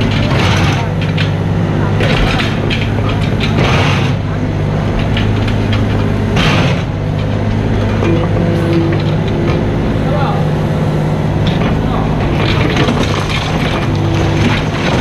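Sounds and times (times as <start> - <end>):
machine scraping and knocking: 0.0 - 10.2, 11.4 - 15.0
excavator diesel engine running: 0.0 - 15.0.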